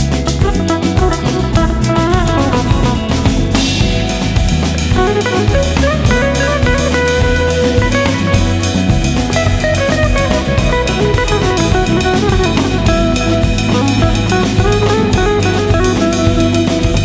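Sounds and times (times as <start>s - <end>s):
drum kit beat: 0.0s - 17.0s
guitar: 0.0s - 17.0s.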